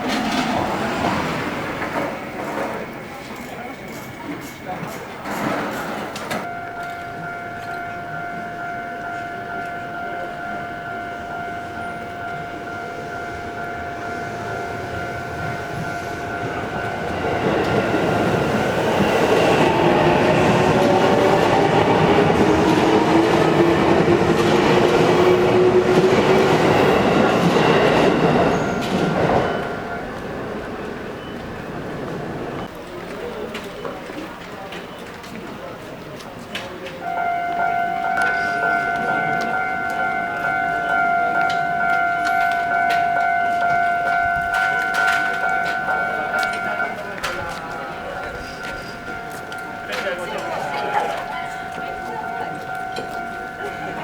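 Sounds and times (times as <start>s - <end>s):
wheel and track noise: 0.0s - 6.9s, 14.4s - 54.0s
train passing: 0.0s - 54.0s.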